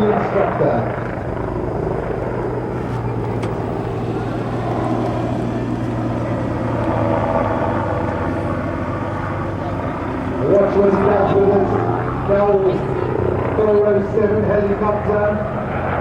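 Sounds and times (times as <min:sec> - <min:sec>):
helicopter turbine and rotors humming: 0:00.0 - 0:16.0.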